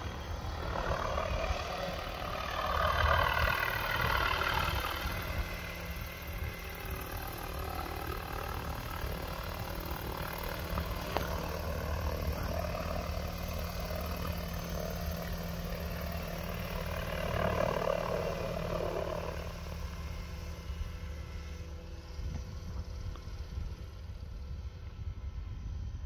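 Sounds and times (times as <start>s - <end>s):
rotorcraft engine drone: 0.0s - 26.0s.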